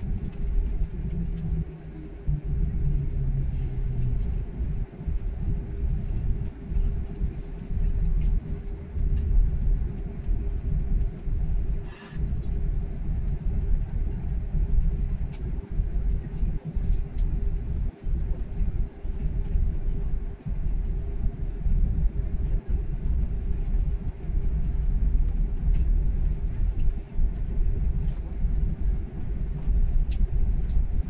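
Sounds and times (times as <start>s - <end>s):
jet airliner taxiing rumble: 0.0s - 31.0s
steady cabin hum: 0.0s - 31.0s.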